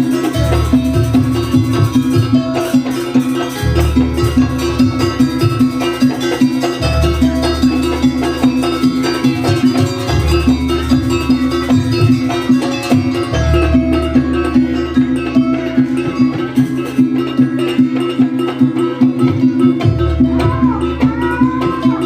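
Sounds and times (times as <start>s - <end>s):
deep bass layer: 0.0s - 22.0s
ensemble playing quick melodic figure: 0.0s - 22.0s.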